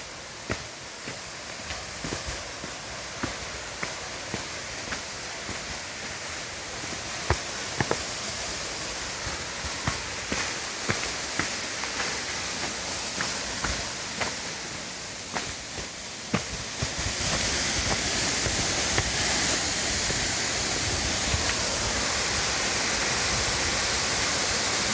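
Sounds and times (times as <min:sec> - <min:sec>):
waterfall hiss: 0:00.0 - 0:24.9.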